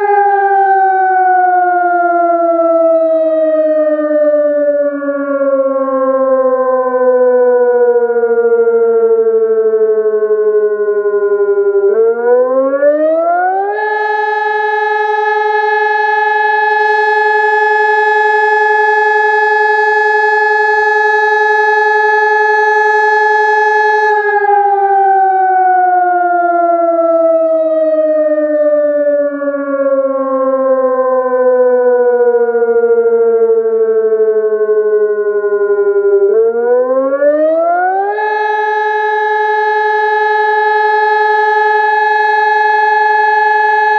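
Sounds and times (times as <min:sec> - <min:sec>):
fire siren: 0:00.0 - 0:43.9.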